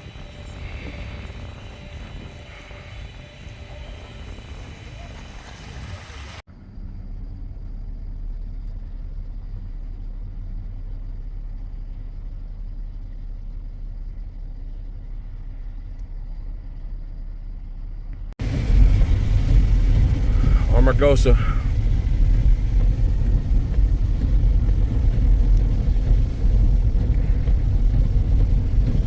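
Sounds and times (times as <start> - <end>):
car driving rumble from inside: 0.0 - 5.3, 6.3 - 29.0.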